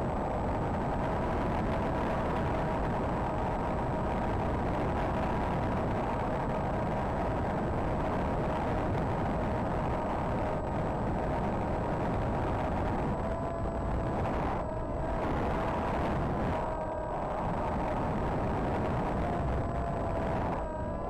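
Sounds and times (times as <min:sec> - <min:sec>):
electric motor whine: 0:00.0 - 0:21.0.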